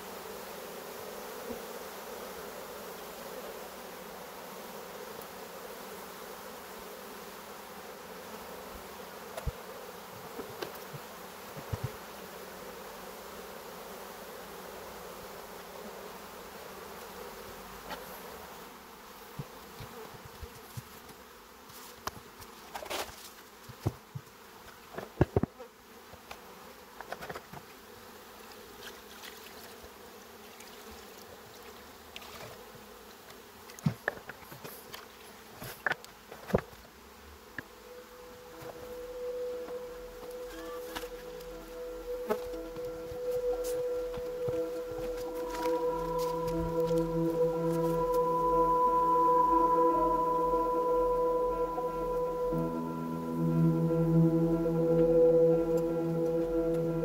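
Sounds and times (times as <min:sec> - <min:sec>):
bees buzzing: 0:00.0 - 0:35.6, 0:36.8 - 0:57.0.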